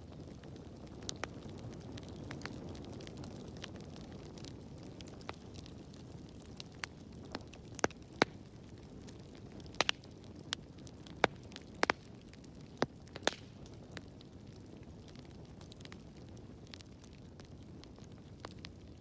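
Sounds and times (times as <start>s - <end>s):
flames rumbling: 0.0s - 19.0s
wood fire crackling and popping: 0.0s - 19.0s.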